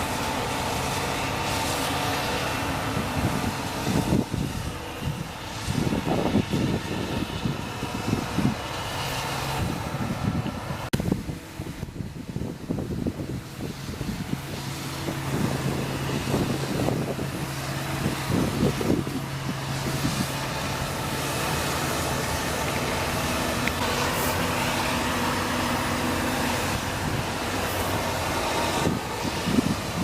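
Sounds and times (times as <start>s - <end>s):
diesel farm machinery engines: 0.0s - 30.0s.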